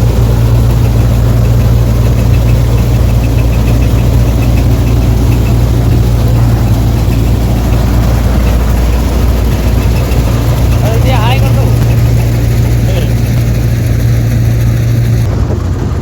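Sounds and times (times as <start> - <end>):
faint quick ticking: 0.0 - 15.3
combine harvester engine drone: 0.0 - 16.0.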